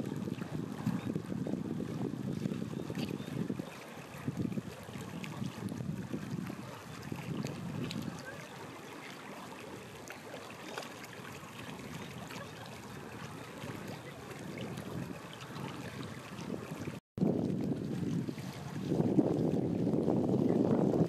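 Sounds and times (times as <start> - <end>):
wind buffeting microphone: 0.0 - 8.8, 11.4 - 21.0
lake water lapping at shore: 0.0 - 21.0.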